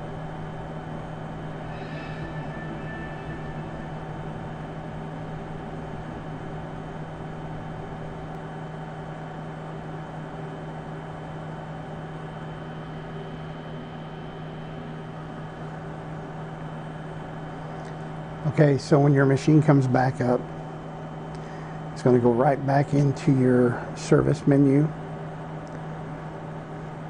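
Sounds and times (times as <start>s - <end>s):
electrical hum: 0.0s - 27.0s
faint high whine: 0.0s - 27.0s
fan whir: 0.0s - 27.0s.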